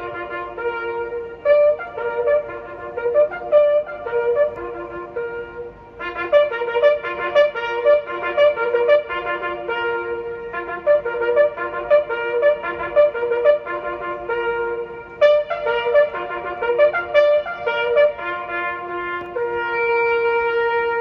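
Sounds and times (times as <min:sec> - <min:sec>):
bugle playing: 0:00.0 - 0:21.0.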